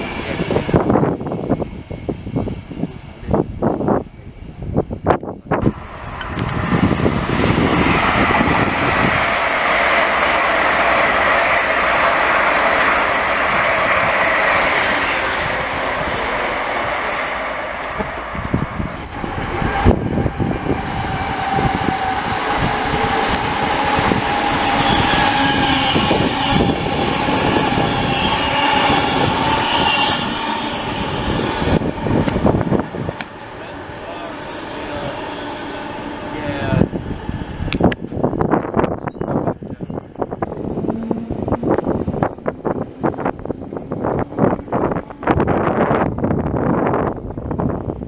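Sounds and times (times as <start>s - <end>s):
electric train passing: 0.0s - 48.0s
wheels on rail: 0.0s - 48.0s.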